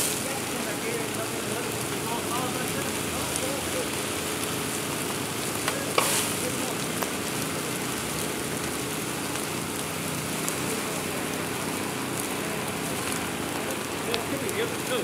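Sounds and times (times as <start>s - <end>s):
faint crackles: 0.0s - 15.0s
fire sizzling hiss: 0.0s - 15.0s.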